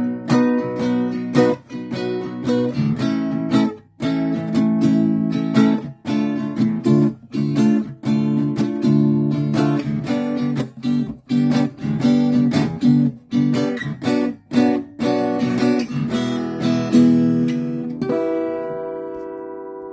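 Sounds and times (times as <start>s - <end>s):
guitar strummed in chords: 0.0s - 19.9s.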